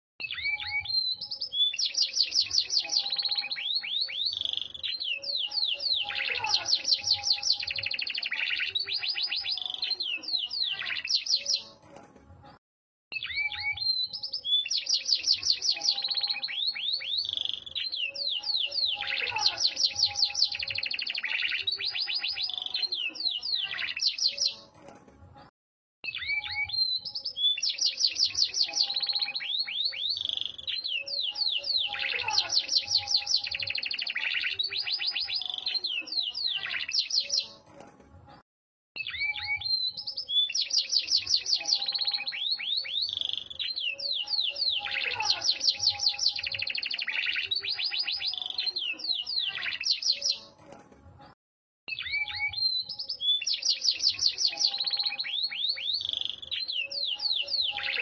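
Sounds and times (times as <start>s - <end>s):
canary singing trills: 0.2s - 11.8s, 13.1s - 24.7s, 26.0s - 37.6s, 39.0s - 50.6s, 51.9s - 58.0s.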